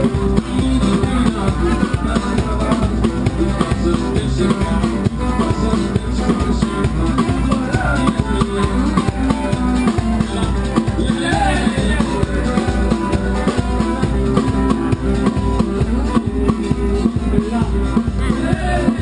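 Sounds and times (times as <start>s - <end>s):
drum kit beat: 0.0s - 19.0s
street band playing dance music: 0.0s - 19.0s.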